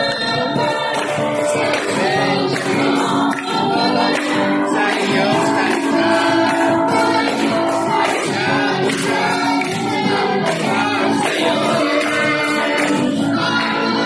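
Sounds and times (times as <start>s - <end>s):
band playing: 0.0s - 14.0s
congregation singing: 0.0s - 14.0s.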